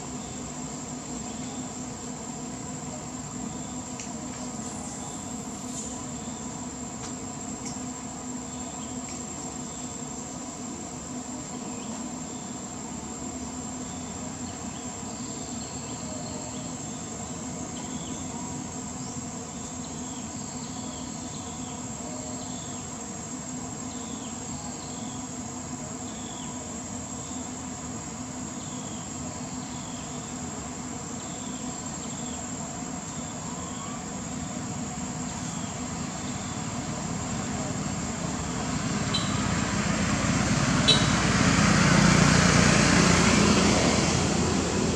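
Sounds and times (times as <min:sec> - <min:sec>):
high insect drone: 0:00.0 - 0:44.9.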